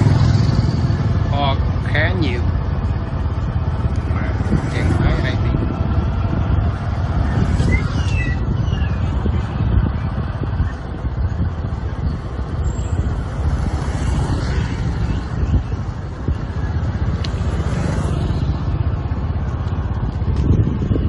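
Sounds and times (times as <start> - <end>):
motorbike engine: 0.0 - 21.0
road noise: 0.0 - 21.0
wind rumbling on microphone: 0.0 - 21.0.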